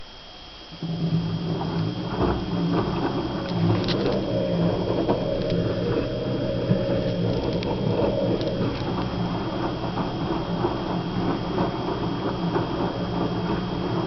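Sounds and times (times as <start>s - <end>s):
low pulsing motor hum: 0.0s - 14.0s
water sloshing: 1.2s - 13.6s.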